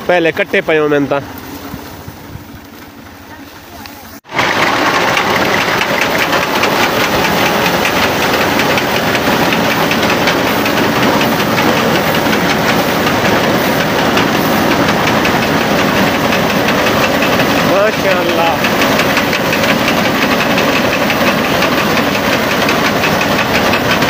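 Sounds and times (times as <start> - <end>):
tractor diesel engine under load: 2.4 - 24.0
reaper cutter rattling: 4.3 - 24.0.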